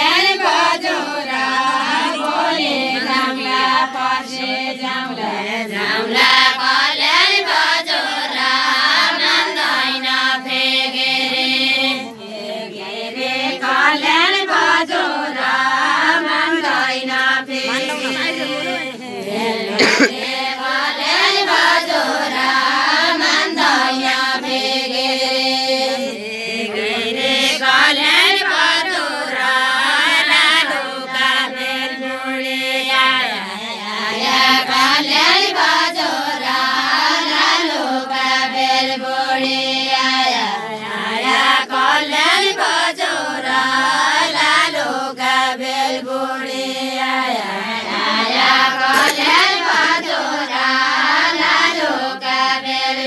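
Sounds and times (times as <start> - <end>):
women singing unaccompanied: 0.0 - 53.0.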